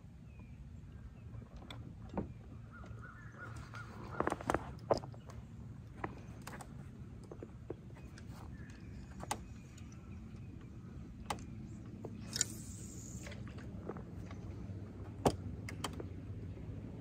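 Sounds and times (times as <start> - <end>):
boat motor hum: 0.0 - 17.0.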